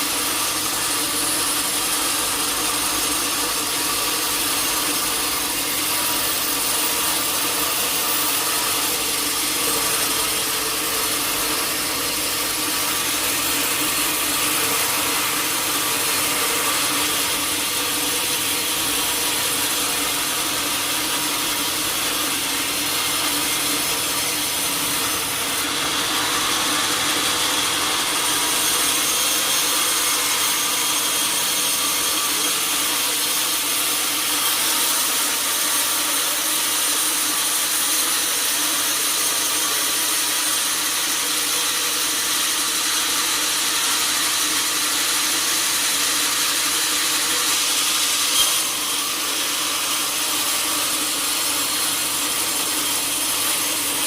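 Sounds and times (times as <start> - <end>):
sawmill saw rasping through log: 0.0 - 54.0.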